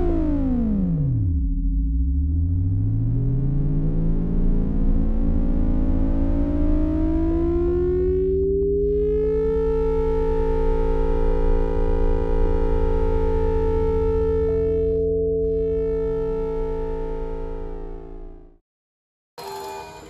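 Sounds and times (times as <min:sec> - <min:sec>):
synthesizer tones and drone: 0:01.6 - 0:18.6.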